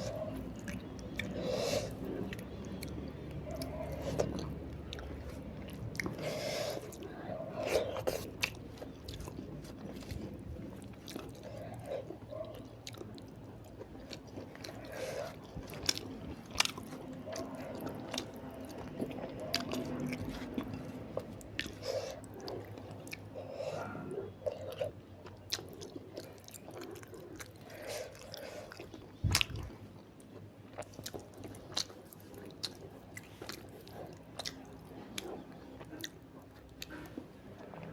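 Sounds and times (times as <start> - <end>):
chewing with wet mouth smacks: 0.0 - 37.9.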